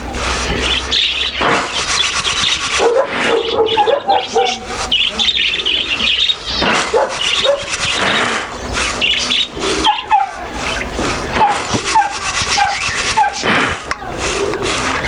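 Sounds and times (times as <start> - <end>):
rustling: 0.0 - 15.0
small birds chirping: 0.0 - 15.0.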